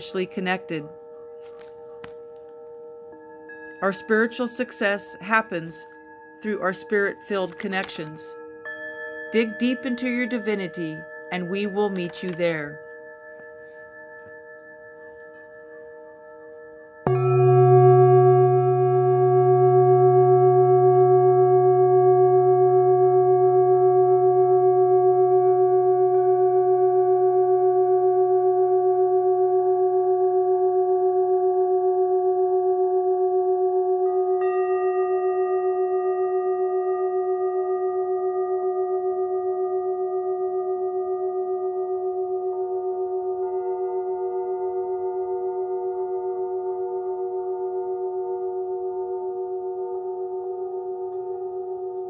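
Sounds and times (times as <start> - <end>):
singing bowl ringing: 0.0 - 52.0.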